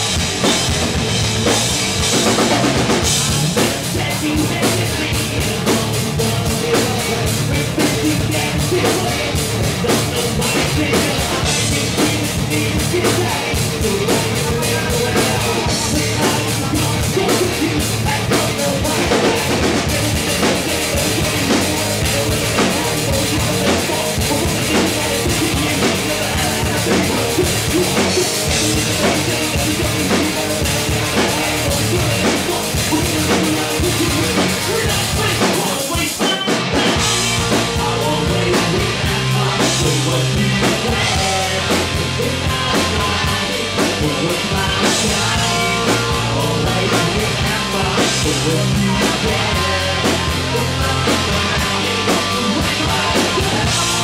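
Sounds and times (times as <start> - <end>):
drum kit pounding: 0.0 - 54.0
rock band playing loudly: 0.0 - 54.0.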